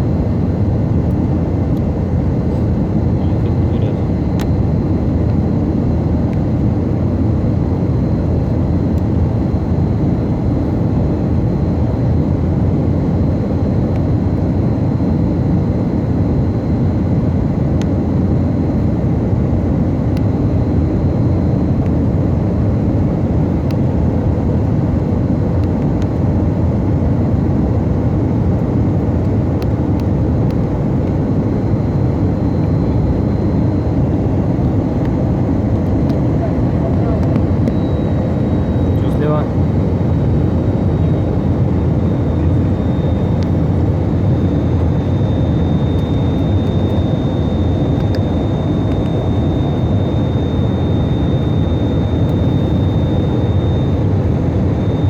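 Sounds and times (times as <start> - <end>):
airplane cabin engine rush: 0.0 - 55.0
faint high whine: 0.0 - 55.0.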